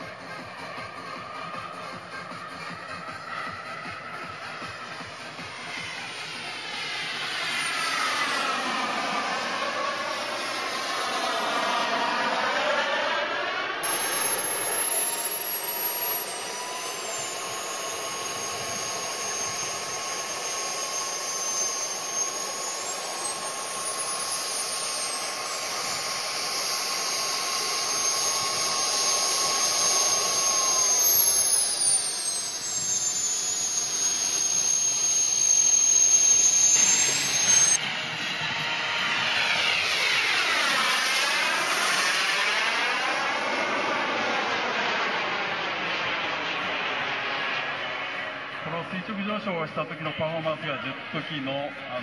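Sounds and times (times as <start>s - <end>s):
model jet turbine whine: 0.0s - 52.0s.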